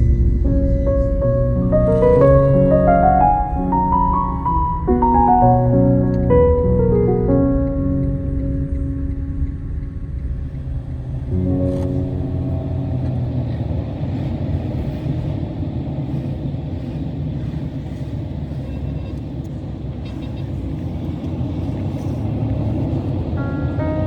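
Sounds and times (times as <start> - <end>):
vehicle rumble on the move: 0.0 - 24.0.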